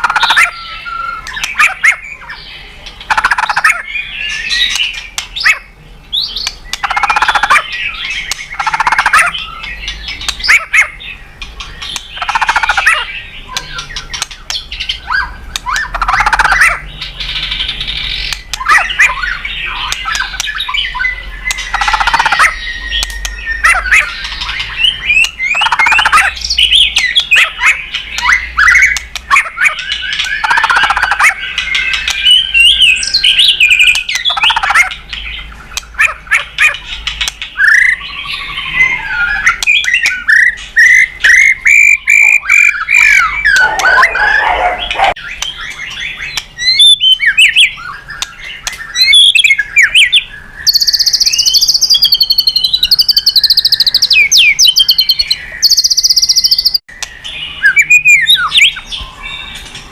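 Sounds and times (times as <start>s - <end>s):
high continuous bird trill: 0.0s - 59.9s
songbird singing varied song: 0.0s - 59.9s.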